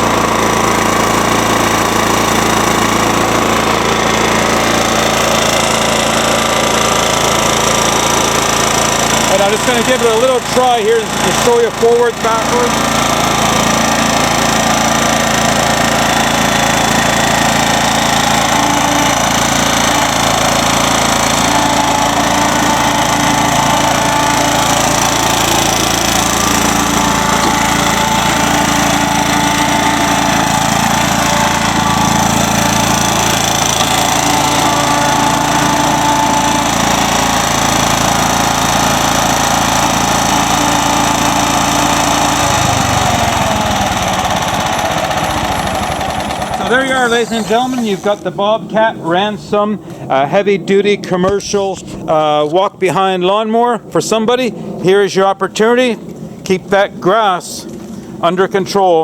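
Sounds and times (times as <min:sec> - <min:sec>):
lawnmower engine running: 0:00.0 - 0:59.0.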